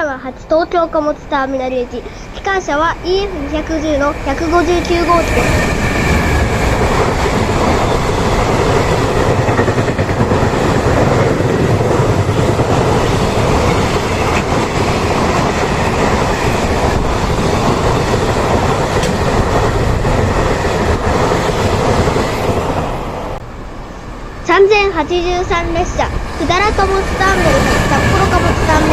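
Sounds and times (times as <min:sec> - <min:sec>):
freight train wheels on rails: 0:00.0 - 0:28.9.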